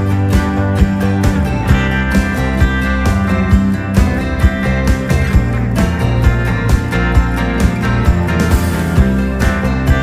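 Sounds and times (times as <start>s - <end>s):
upbeat acoustic guitar music: 0.0s - 10.0s.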